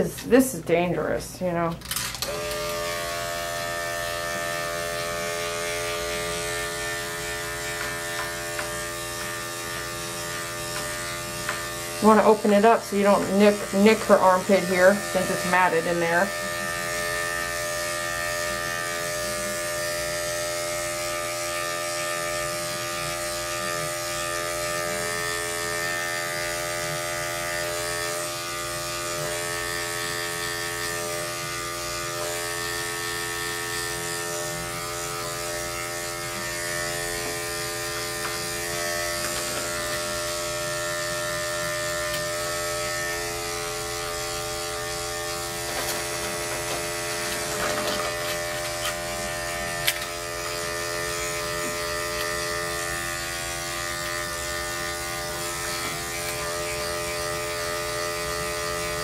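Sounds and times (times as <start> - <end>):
electric clippers buzzing: 0.0 - 59.0.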